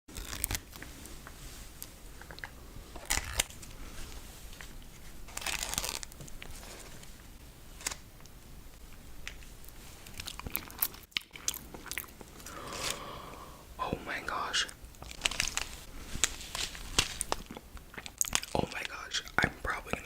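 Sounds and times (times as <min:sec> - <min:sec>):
packaging crinkling and tearing: 0:00.1 - 0:08.3, 0:09.2 - 0:13.0, 0:14.3 - 0:20.0.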